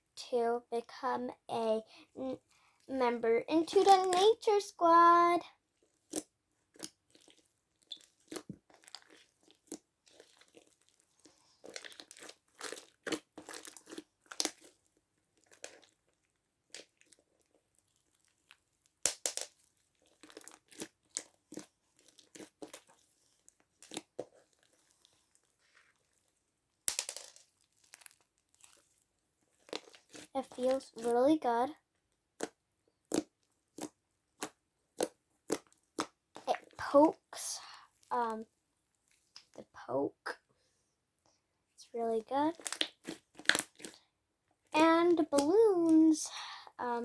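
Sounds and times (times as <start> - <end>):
slime squelching and popping: 3.0 - 38.4, 42.0 - 44.1, 44.7 - 46.1.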